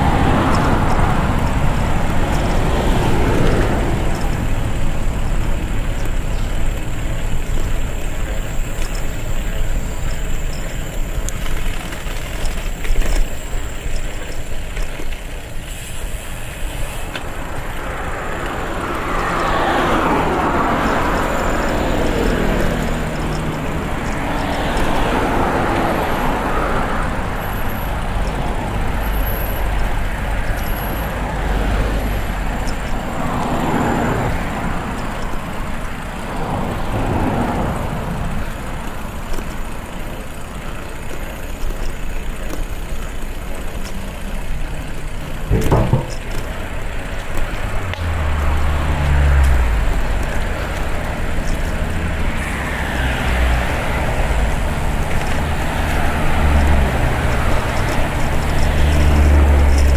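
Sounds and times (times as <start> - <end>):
heavy vehicle engine: 0.0 - 59.9
road traffic rumble: 0.0 - 59.9.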